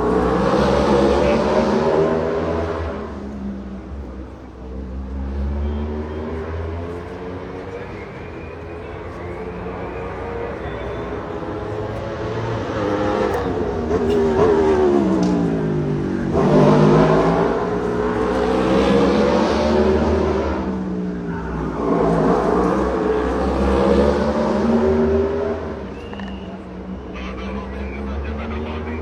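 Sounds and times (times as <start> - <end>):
race cars passing: 0.0 - 29.0.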